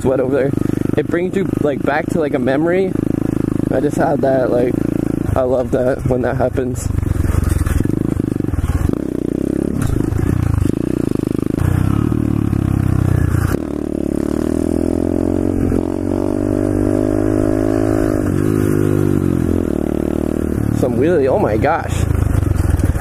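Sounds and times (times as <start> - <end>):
motorbike engine accelerating: 0.0 - 23.0.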